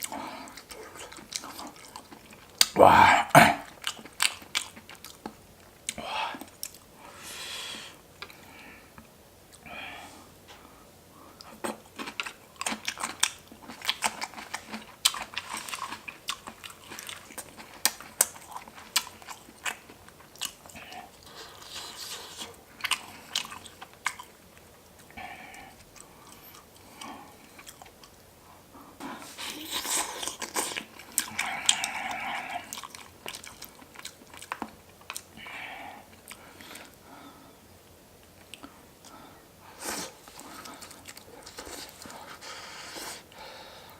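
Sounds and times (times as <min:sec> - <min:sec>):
crunchy chewing: 0:00.0 - 0:02.8, 0:03.6 - 0:06.9, 0:11.4 - 0:37.0, 0:38.2 - 0:43.4.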